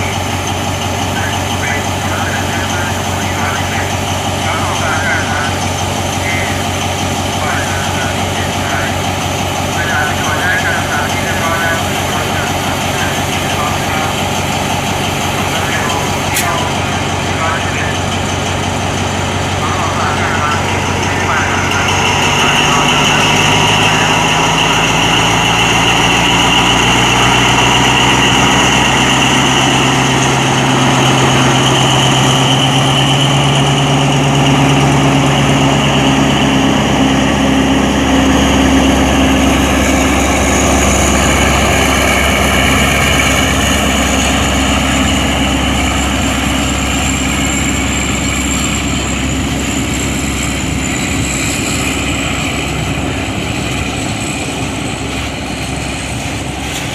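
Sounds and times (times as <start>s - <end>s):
locomotive engine running: 0.0s - 56.9s.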